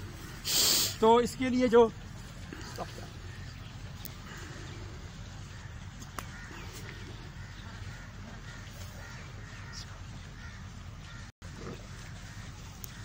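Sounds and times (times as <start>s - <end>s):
faint bird calls: 2.5s - 13.0s.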